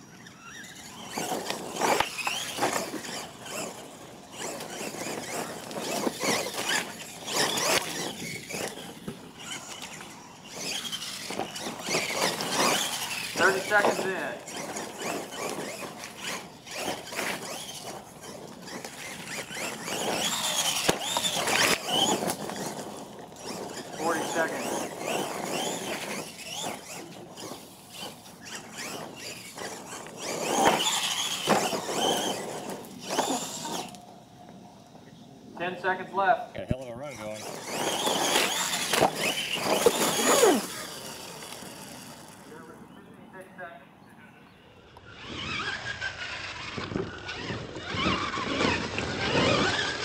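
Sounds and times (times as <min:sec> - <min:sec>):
toy truck motor whining: 0:00.0 - 0:34.3, 0:36.9 - 0:42.8, 0:44.9 - 0:50.0.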